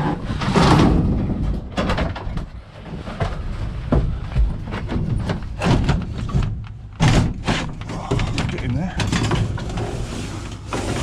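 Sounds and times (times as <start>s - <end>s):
knocks and thuds in a van: 0.5s - 9.6s.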